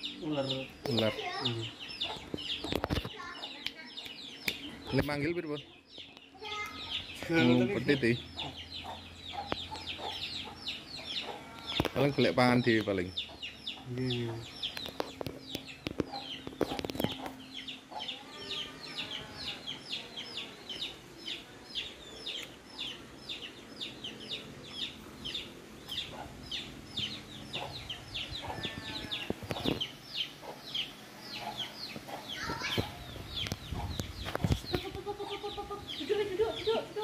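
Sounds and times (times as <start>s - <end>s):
bird chirping: 0.0s - 37.0s.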